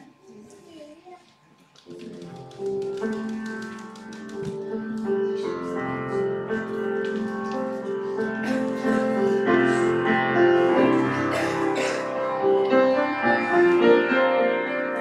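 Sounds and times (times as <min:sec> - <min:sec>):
grand piano playing: 0:01.9 - 0:15.0.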